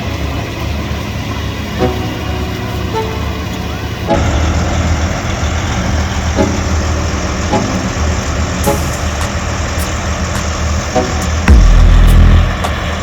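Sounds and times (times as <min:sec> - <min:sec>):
diesel machine rumbling: 0:00.0 - 0:13.0.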